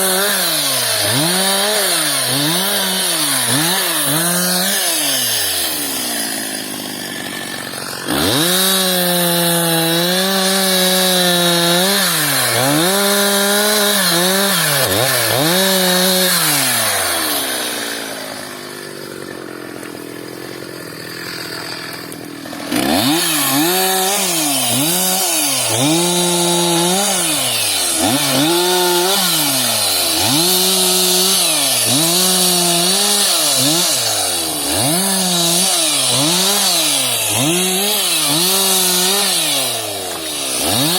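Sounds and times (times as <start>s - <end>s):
chainsaw revving under load: 0.0s - 40.9s.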